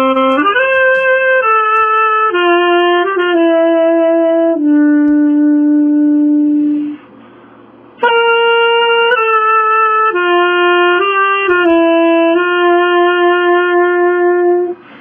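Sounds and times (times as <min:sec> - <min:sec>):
solo saxophone melody: 0:00.0 - 0:15.0.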